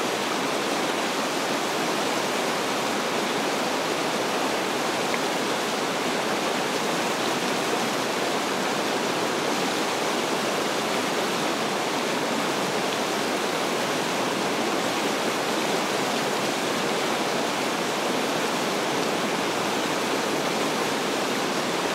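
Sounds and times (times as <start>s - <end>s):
river water rushing over rocks: 0.0s - 21.9s.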